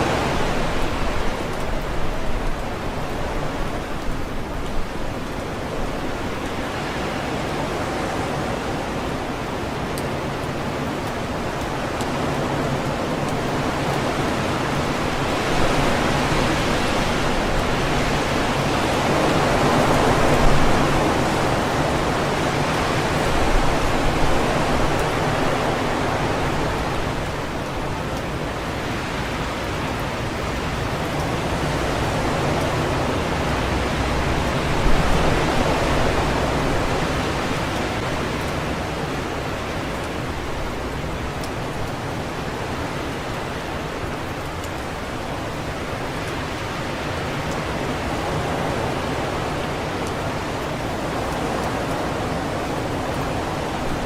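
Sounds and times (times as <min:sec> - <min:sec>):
wind rustling tree leaves: 0:00.0 - 0:54.0.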